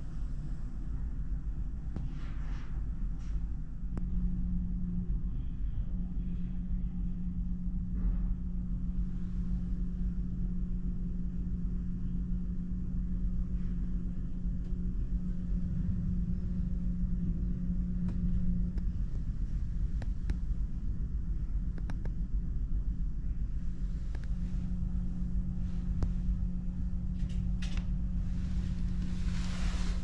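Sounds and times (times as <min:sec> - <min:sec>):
constant hum: 0:00.0 - 0:30.0
ferry machinery low rumble: 0:00.0 - 0:30.0.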